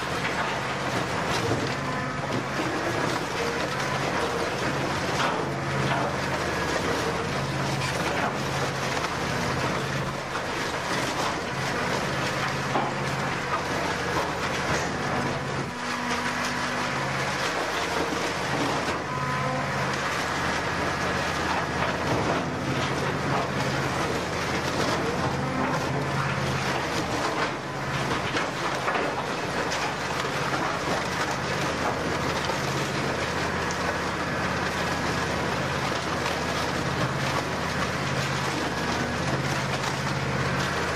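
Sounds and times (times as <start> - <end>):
shredder machine drone: 0.0 - 40.9.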